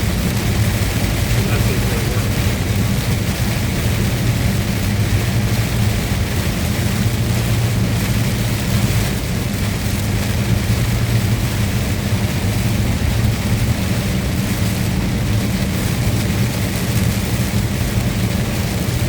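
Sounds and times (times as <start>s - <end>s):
hiss from wet road: 0.0s - 19.0s
truck engine drone: 0.0s - 19.0s.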